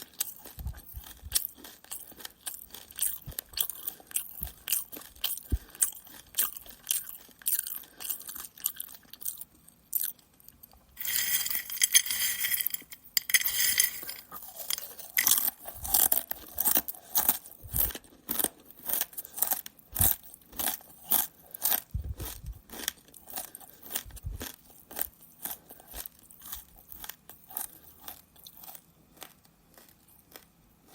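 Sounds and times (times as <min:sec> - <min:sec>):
crunchy snack chewing: 0:00.0 - 0:30.9.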